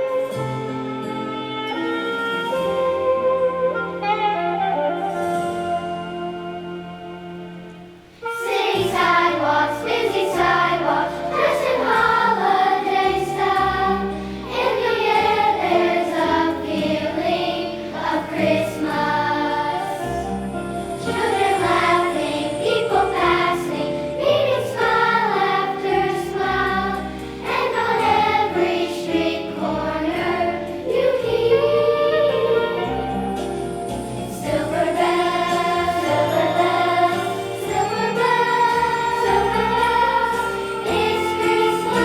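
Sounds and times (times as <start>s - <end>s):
instrumental accompaniment: 0.0s - 42.0s
held instrumental chord: 0.4s - 42.0s
choir singing: 8.2s - 42.0s.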